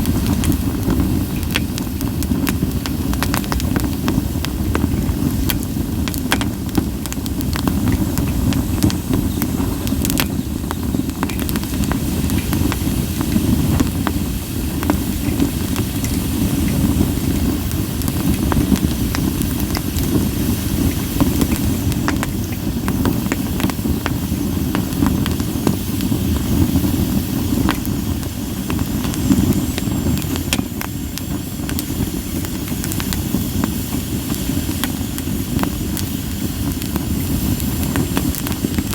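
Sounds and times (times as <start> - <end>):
campfire flames rushing: 0.0 - 38.9
steam hissing from wood: 0.0 - 38.9
wood crackling and popping: 0.0 - 38.9.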